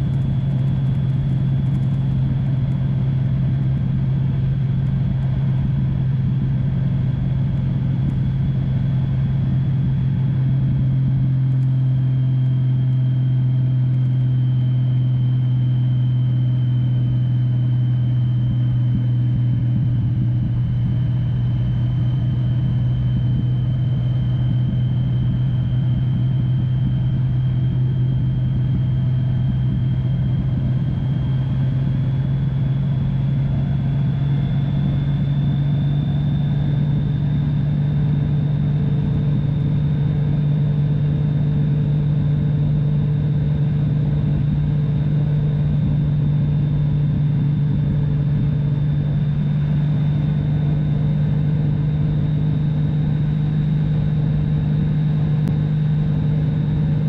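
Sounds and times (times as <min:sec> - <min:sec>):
motorcycle engine droning: 0:00.0 - 0:57.0
road and wind noise: 0:00.0 - 0:57.0.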